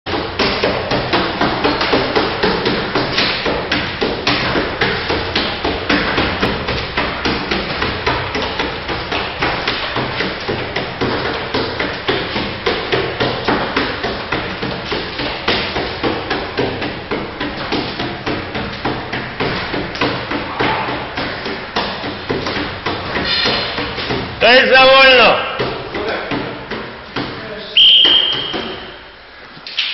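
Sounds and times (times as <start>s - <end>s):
rapid thumping knocks: 0.1s - 27.4s.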